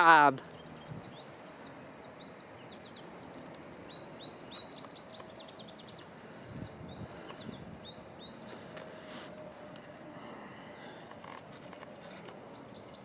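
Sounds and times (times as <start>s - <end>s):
low outdoor background: 0.0s - 13.0s
small birds chirping: 0.0s - 13.0s.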